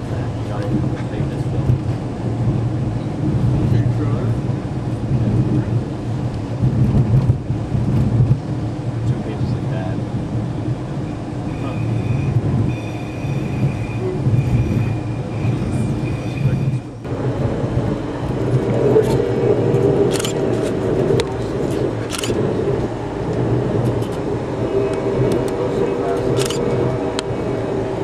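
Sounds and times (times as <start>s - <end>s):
train rumbling along track: 0.0s - 28.0s.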